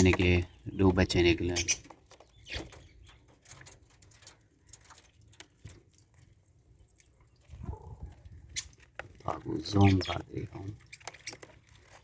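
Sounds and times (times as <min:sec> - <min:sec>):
budgies pecking corn cob: 0:00.0 - 0:05.8, 0:07.0 - 0:12.0.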